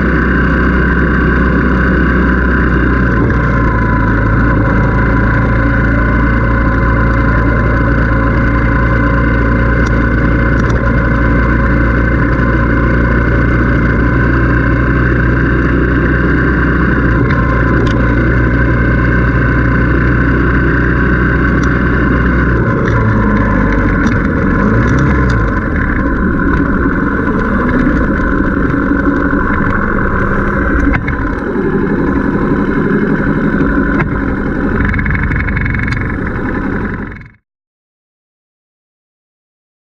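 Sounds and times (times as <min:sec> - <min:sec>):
motorcycle engine running: 0:00.0 - 0:37.4.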